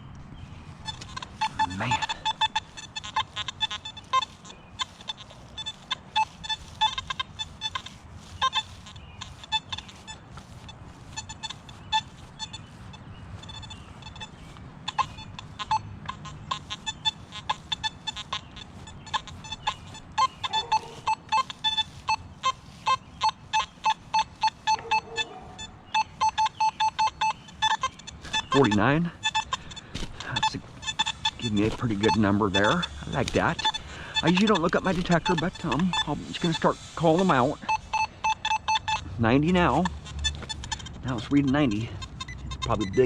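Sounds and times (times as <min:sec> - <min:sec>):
metal detector beeping: 0:00.0 - 0:43.0
lower-pitched detector tones: 0:00.8 - 0:43.0.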